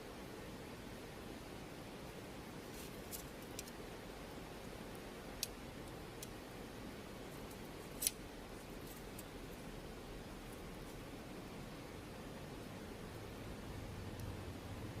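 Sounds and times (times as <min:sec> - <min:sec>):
campfire crackling: 0:02.6 - 0:15.0.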